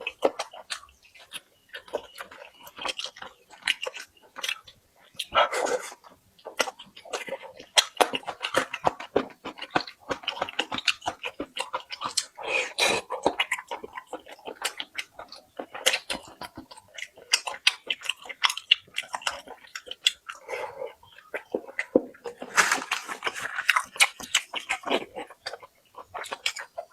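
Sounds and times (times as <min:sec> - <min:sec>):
close-miked chewing: 0:00.0 - 0:26.9.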